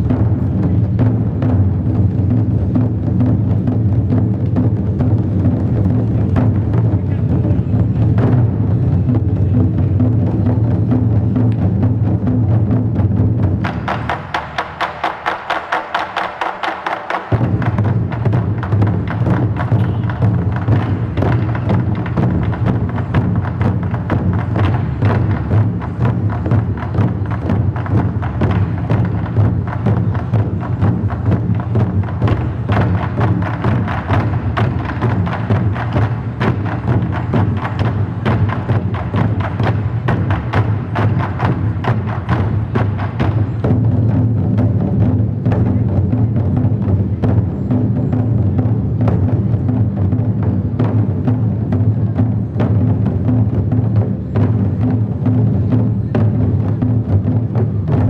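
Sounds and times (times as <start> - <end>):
gong and drum ensemble playing: 0.0 - 58.0.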